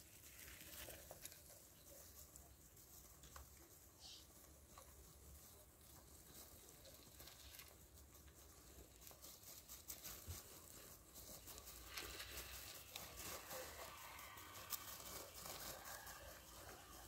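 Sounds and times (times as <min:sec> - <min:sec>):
rustling of wood-shaving bedding: 0:00.0 - 0:17.0.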